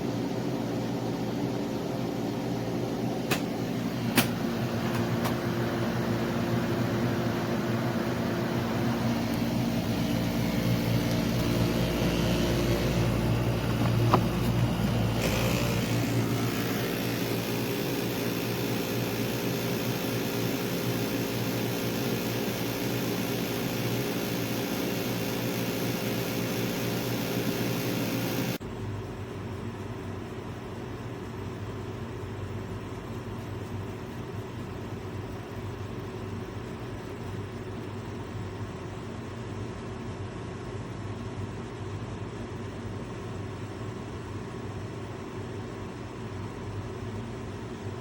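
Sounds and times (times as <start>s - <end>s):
air conditioner humming: 0.0s - 48.0s.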